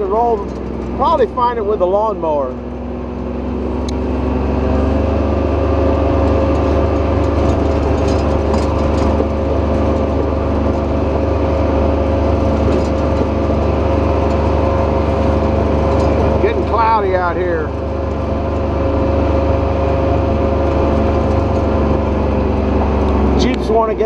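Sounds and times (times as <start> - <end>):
utility vehicle engine running: 0.0 - 24.0.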